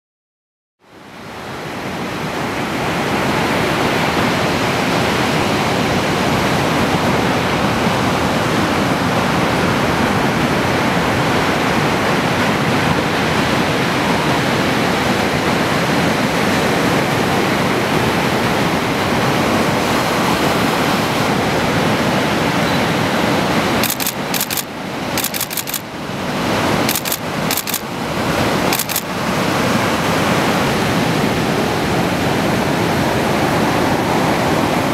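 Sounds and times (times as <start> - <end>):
ocean surf breaking on sand: 1.4 - 34.9.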